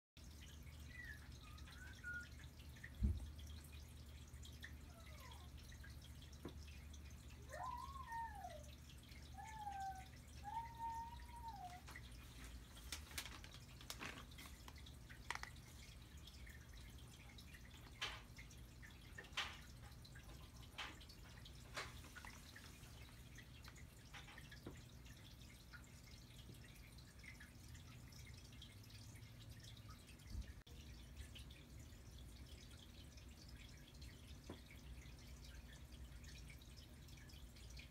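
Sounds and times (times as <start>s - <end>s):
faint clicks and ticks: 0.2s - 37.9s.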